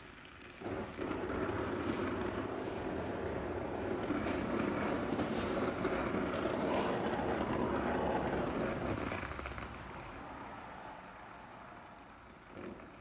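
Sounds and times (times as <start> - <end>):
gas torch flame burning: 0.0 - 13.0.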